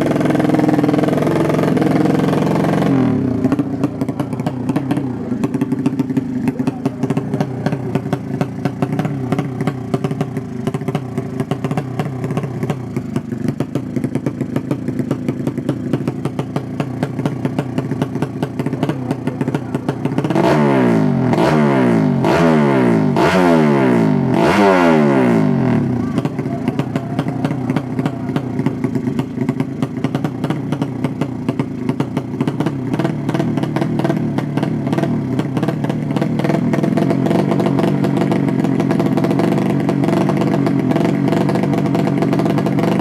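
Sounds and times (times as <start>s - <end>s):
motorcycle engine idling: 0.0s - 43.0s
motorcycle throttle blips: 0.0s - 43.0s.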